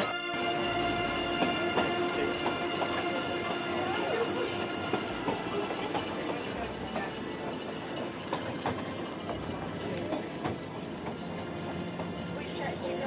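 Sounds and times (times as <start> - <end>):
train running: 0.0 - 13.0
wheels clicking and knocking: 0.0 - 13.0.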